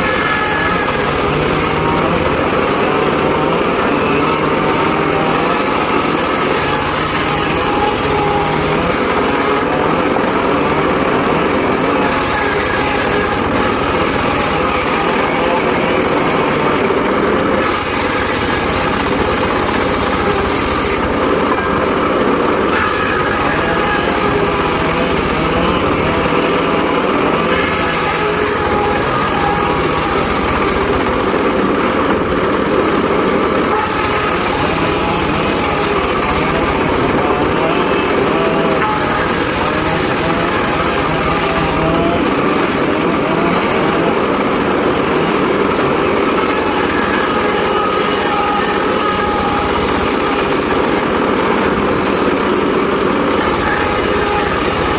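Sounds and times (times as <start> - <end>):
circular saw cutting wood: 0.0 - 54.9.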